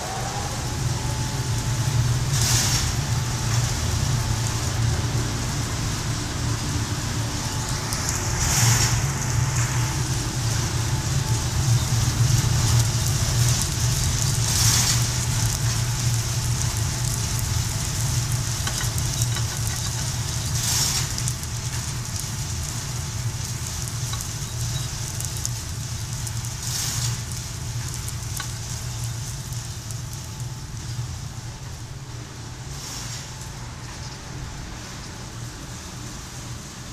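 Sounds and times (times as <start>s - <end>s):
coffee roaster humming: 0.0s - 36.9s
coffee beans crackling: 1.8s - 6.1s, 6.7s - 34.4s.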